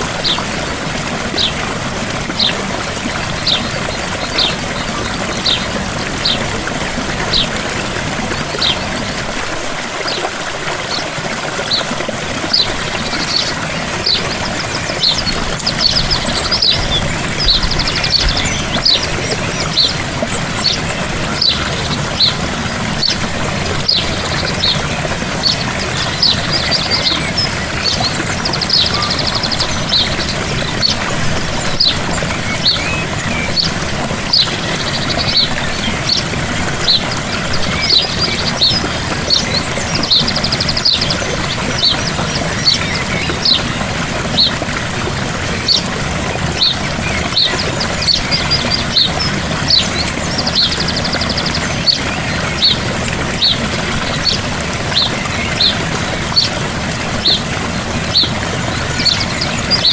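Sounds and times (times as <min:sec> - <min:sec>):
waterfall pouring: 0:00.0 - 0:59.9
bird chirping and trilling: 0:02.2 - 0:09.0, 0:11.6 - 0:59.9.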